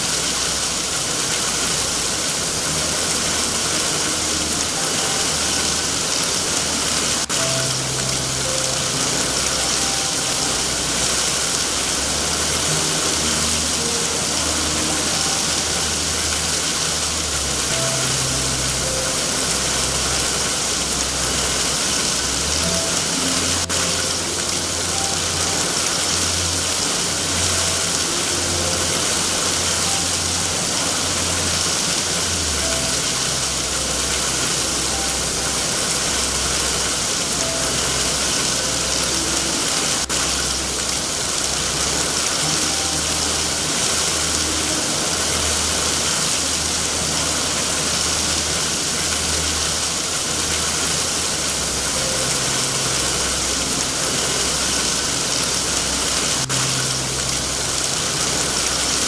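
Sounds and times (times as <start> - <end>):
low drone: 0.0 - 59.0
rain hiss: 0.0 - 59.0
soft low music notes: 0.0 - 59.0.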